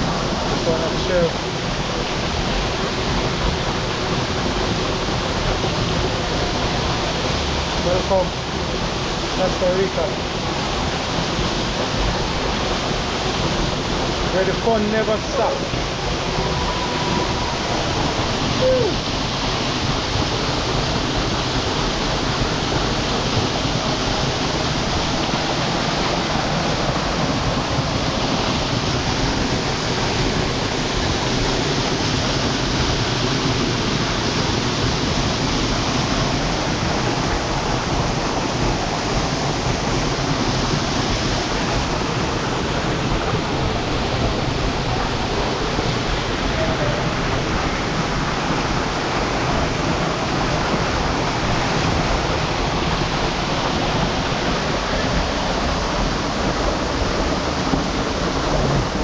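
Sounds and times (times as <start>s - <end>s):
water pouring and splashing in pool: 0.0s - 59.0s.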